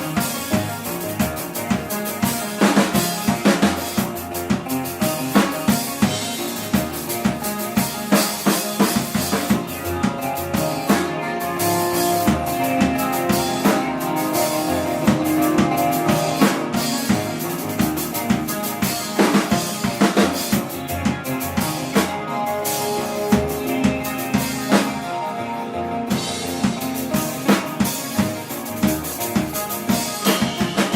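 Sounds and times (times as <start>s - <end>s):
cymbals: 0.0s - 25.4s
rock band playing live: 0.0s - 30.9s.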